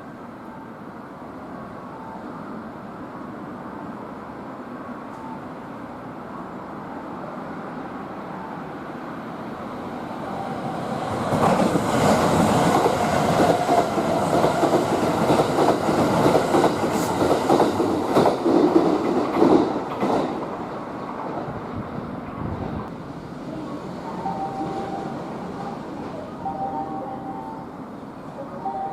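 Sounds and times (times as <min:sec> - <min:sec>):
electric train passing: 0:00.0 - 0:28.9.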